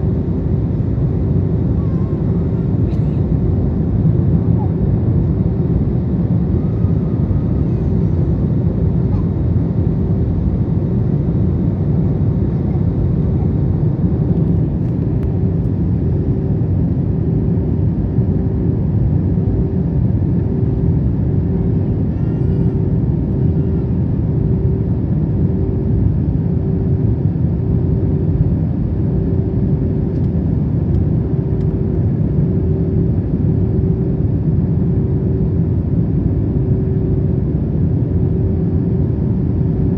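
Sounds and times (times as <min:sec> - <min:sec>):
airflow and jet engine roar: 0:00.0 - 0:39.9.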